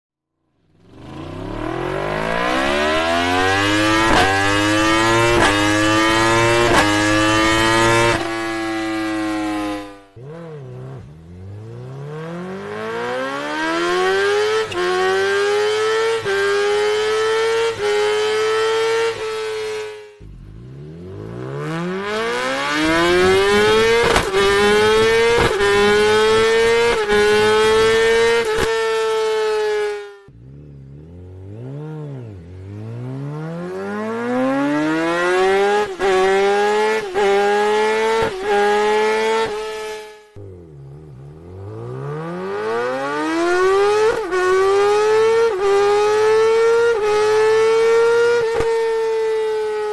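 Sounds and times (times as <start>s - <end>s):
motorcycle accelerating at high revs: 0.6s - 49.9s.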